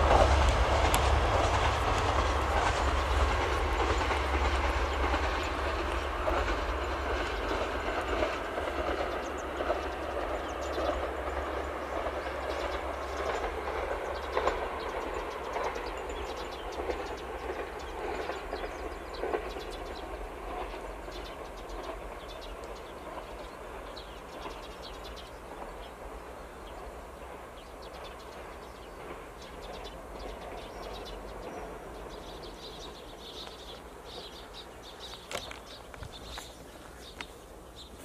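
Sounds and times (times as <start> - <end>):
birds chirping: 0.0 - 38.0
diesel train rumble: 0.0 - 38.0.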